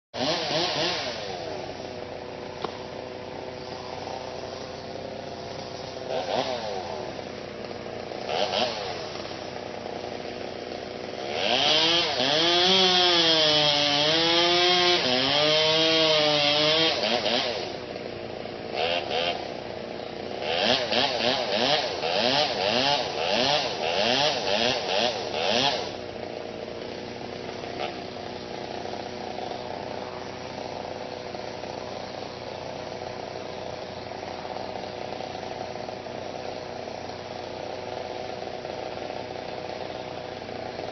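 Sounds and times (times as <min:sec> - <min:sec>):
chainsaw revving and cutting wood: 0:00.2 - 0:40.9.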